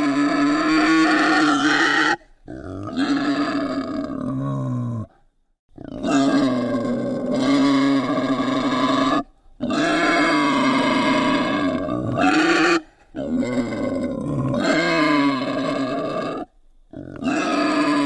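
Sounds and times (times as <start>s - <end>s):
wild boar calling: 0.0s - 5.2s, 5.8s - 18.0s.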